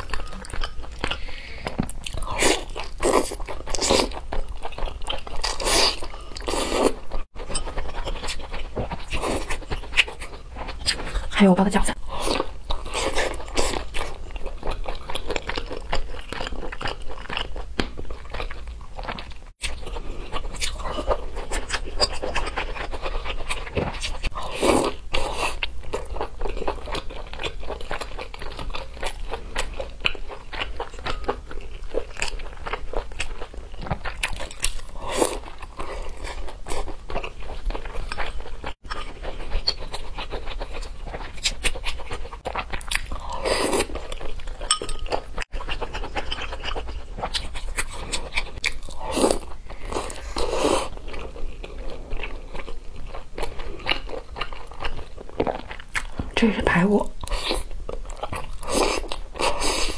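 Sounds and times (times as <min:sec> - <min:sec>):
person chewing food: 0:00.0 - 0:11.4, 0:12.0 - 0:56.4, 0:57.1 - 0:59.9.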